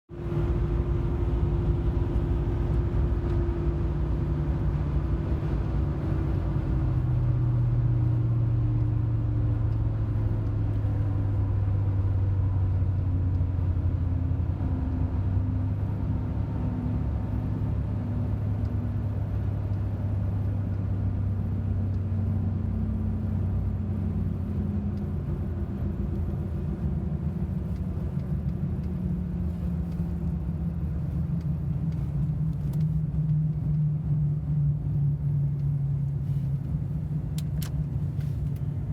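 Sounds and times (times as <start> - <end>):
road and drivetrain rumble: 0.1 - 38.9
vehicle whine: 0.1 - 38.9.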